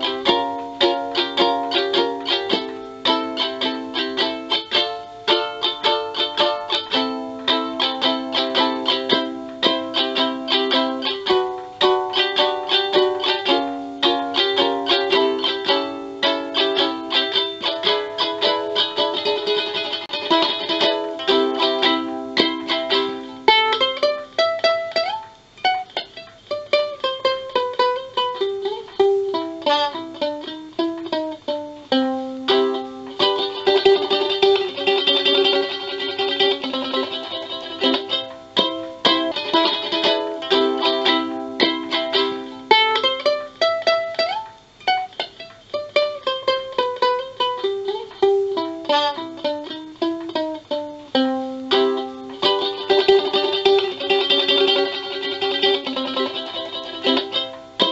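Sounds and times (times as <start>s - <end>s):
electric ukulele playing: 0.0s - 57.9s.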